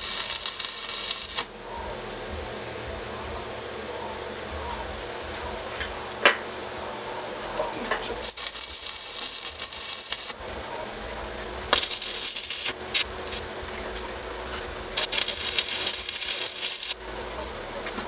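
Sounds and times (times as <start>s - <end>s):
welding arc crackling and hissing: 0.0s - 6.4s, 7.4s - 18.0s
faint steady hum: 0.0s - 18.0s.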